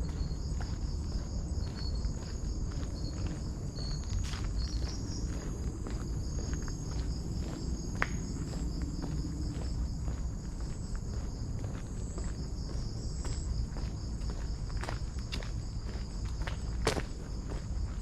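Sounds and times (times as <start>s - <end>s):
footsteps on a trail: 0.0s - 18.0s
high-pitched insect chorus: 0.0s - 18.0s.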